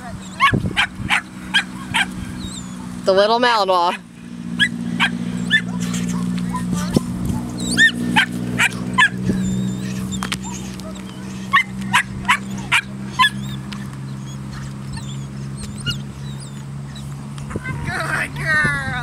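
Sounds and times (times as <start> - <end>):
puppy yipping: 0.0 - 3.0, 4.6 - 17.1
steady low hum: 0.0 - 19.0.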